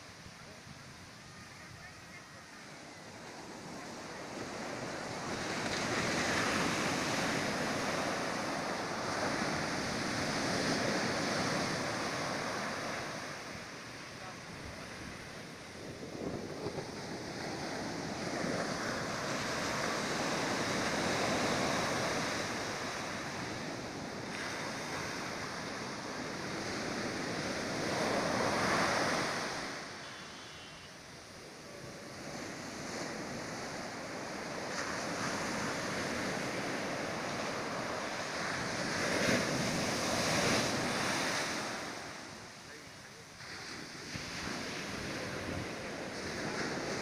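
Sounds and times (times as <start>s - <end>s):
surf breaking on a beach: 0.0s - 47.0s.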